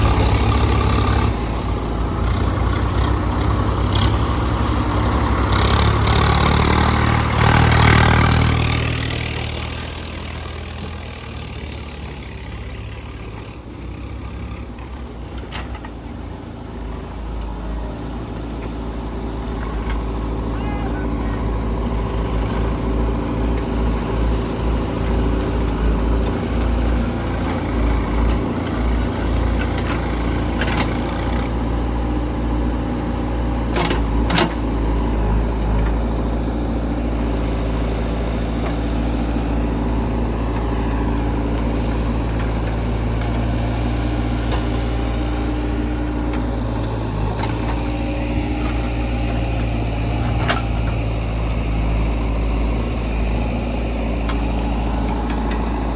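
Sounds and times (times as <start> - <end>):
diesel engine running at low revs: 0.0 - 55.9.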